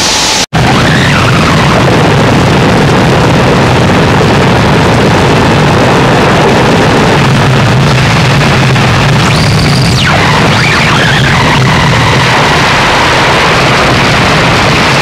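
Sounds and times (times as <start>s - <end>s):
wall of distorted noise: 0.0s - 15.0s
low rumble: 0.6s - 15.0s.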